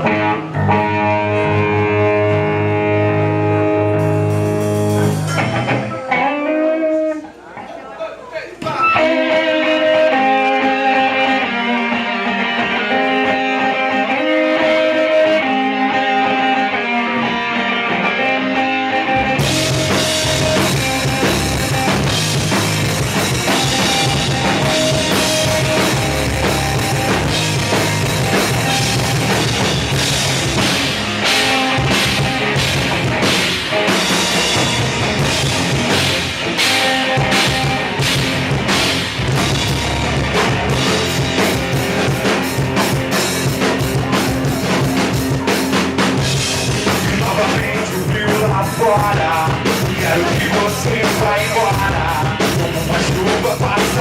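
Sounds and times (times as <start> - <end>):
clean electric guitar riff: 0.0 - 7.3, 8.6 - 54.0
rock band playing: 0.0 - 7.4, 8.5 - 54.0.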